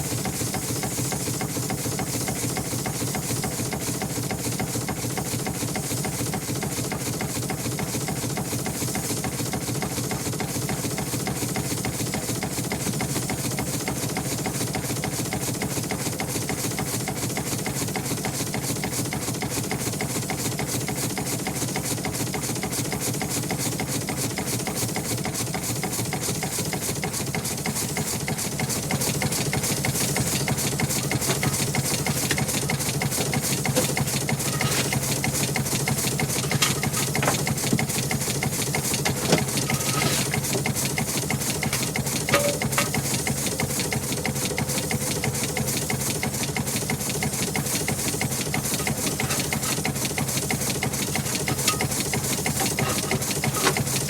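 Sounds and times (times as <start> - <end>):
engine running with rapid clatter: 0.0 - 54.0.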